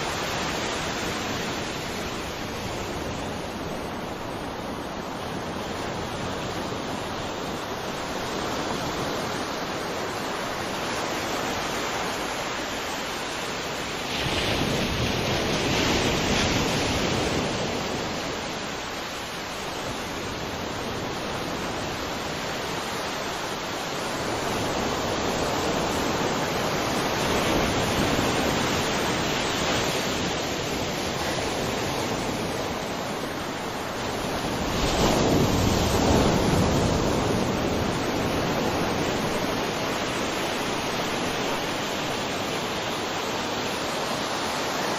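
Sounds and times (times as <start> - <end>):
sea waves breaking ashore: 0.0 - 44.9.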